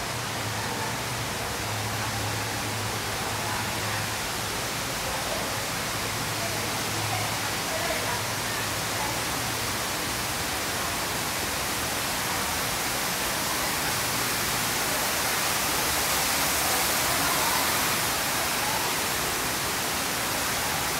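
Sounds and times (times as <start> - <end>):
waterfall onto stone floor: 0.0 - 20.9.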